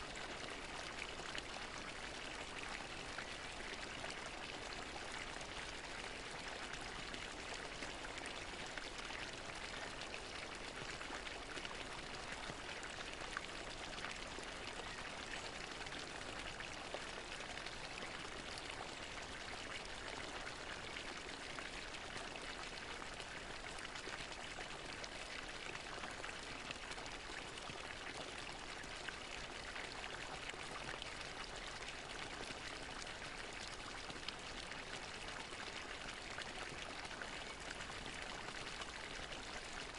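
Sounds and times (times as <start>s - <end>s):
fountain water splashing into basin: 0.0s - 39.9s.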